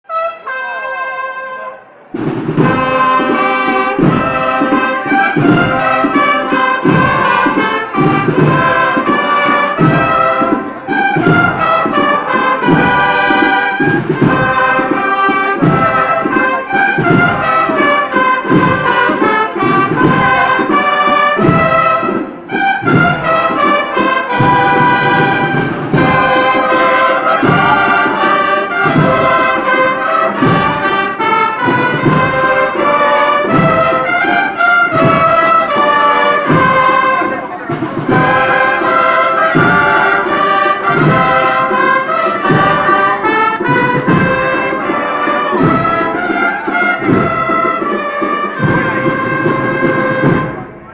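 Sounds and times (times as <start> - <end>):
brass band playing a march: 0.0 - 50.9.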